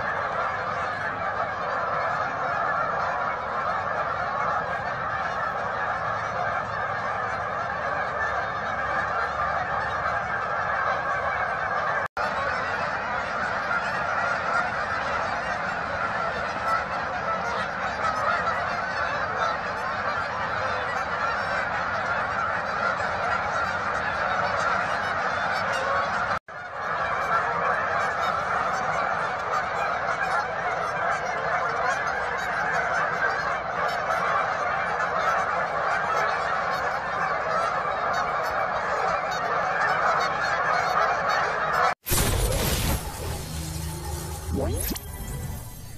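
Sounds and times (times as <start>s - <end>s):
flock of geese honking: 0.0s - 45.9s.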